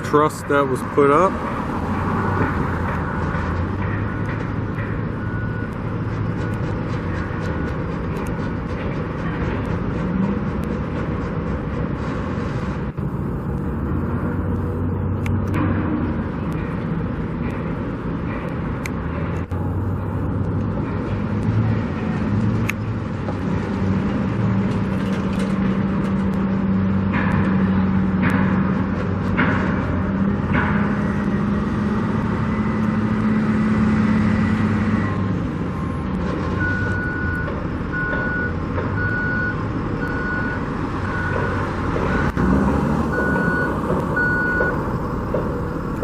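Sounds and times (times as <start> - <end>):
engine rumble: 0.0 - 46.0.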